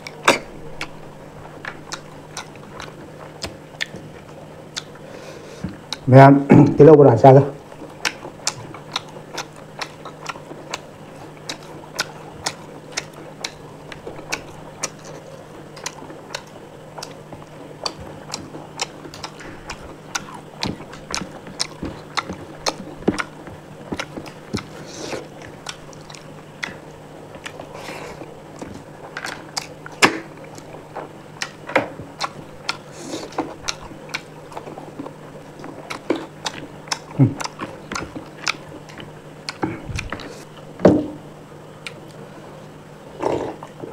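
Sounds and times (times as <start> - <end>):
person chewing food: 0.0 - 6.1, 7.6 - 40.8, 41.8 - 43.9.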